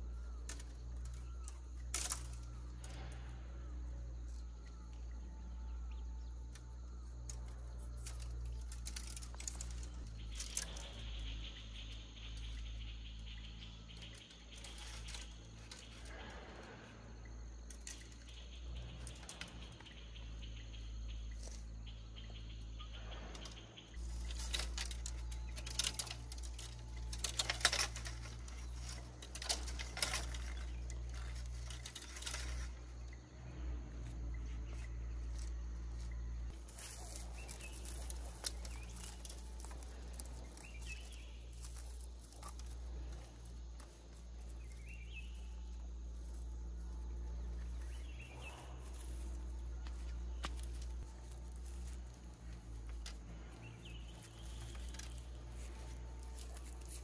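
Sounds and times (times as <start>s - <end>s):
bamboo poles knocking and rustling: 0.0s - 3.3s, 6.4s - 16.4s, 17.6s - 20.2s, 21.0s - 21.9s, 23.3s - 33.2s, 34.0s - 57.0s
faint bird chirps: 0.0s - 57.0s
steady low hum: 0.0s - 57.0s.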